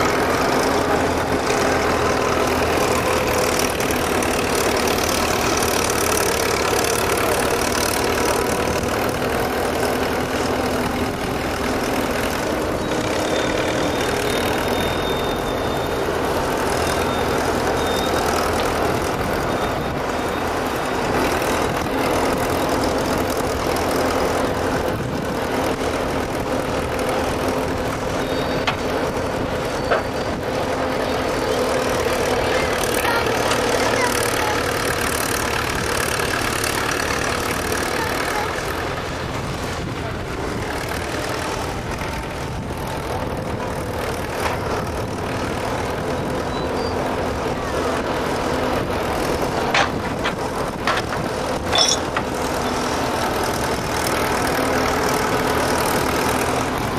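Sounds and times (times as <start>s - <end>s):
excavator engine running: 0.0s - 56.9s.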